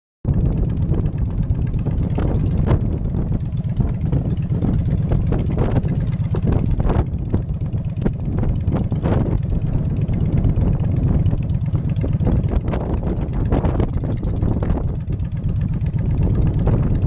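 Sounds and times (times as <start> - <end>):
motorcycle engine running: 0.2 - 17.0
wind buffeting microphone: 0.2 - 17.0.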